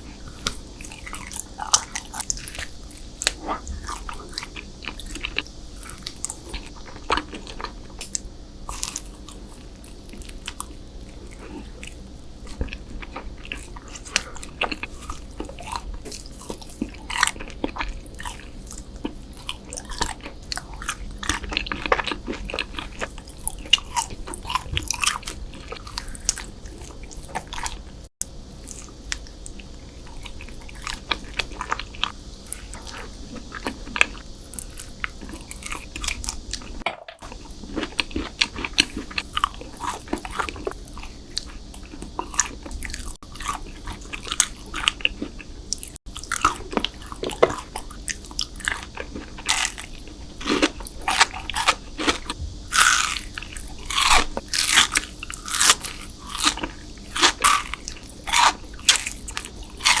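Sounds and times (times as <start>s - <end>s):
crunchy chewing of desserts: 0.0s - 60.0s.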